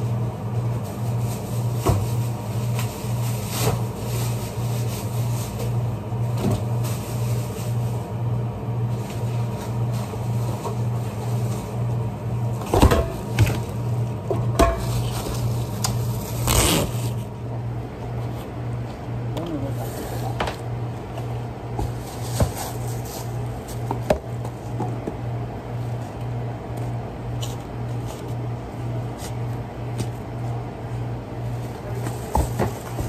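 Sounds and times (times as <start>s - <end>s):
pulsing kitchen machinery hum: 0.0s - 33.0s.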